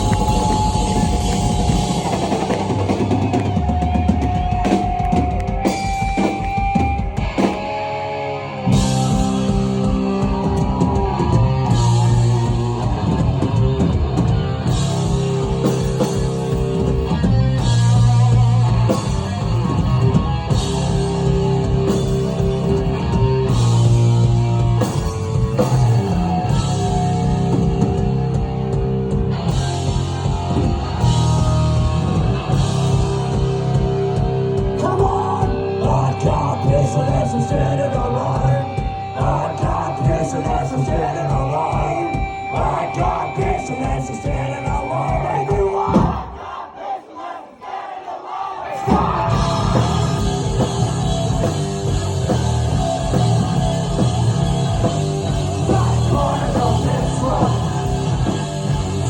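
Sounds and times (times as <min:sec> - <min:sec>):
live rock band playing: 0:00.0 - 0:46.2, 0:48.8 - 0:59.0.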